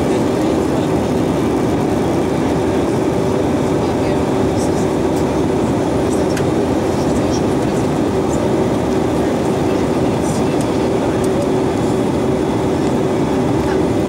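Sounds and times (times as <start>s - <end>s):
airliner cabin air rush: 0.0s - 14.0s
engine drone: 0.0s - 14.0s.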